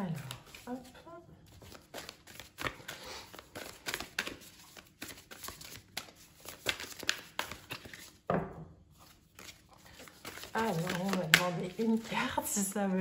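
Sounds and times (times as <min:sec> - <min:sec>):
cards being shuffled: 0:00.0 - 0:08.2, 0:08.9 - 0:12.1.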